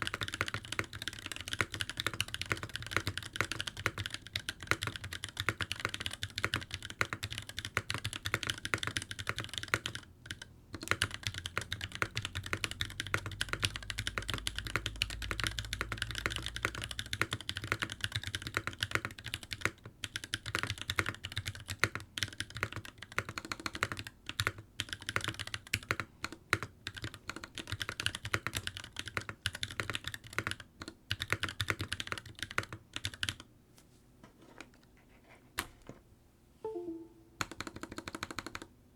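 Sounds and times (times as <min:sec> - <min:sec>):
typing on mechanical keyboard: 0:00.0 - 0:33.5, 0:37.5 - 0:38.7.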